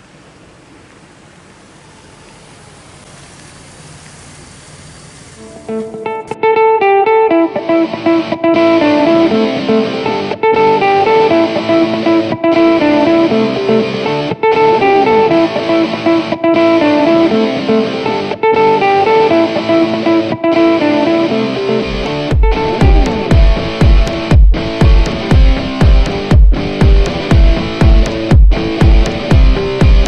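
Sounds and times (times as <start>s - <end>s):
plucked guitar instrumental music: 5.4s - 30.0s.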